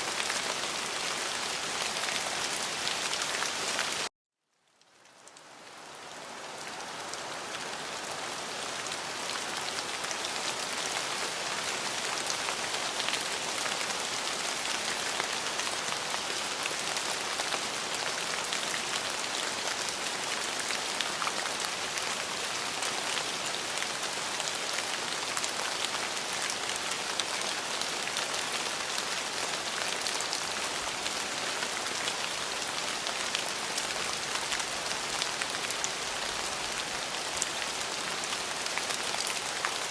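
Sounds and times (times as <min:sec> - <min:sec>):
steady rain on a surface: 0:00.0 - 0:39.9.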